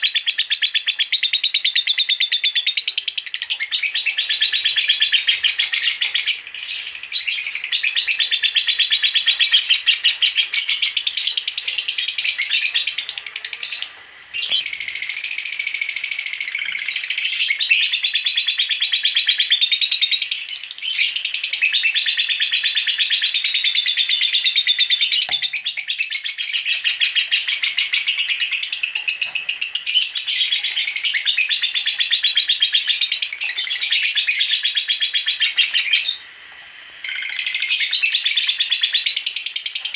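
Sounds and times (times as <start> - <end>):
lovebird chattering song: 0.0 - 36.2, 37.0 - 39.9.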